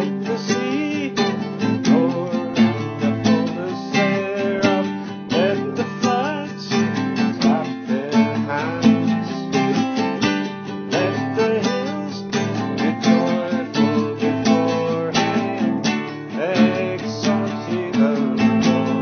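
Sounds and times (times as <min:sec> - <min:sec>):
person singing: 0:00.0 - 0:19.0
strummed acoustic guitar: 0:00.0 - 0:19.0.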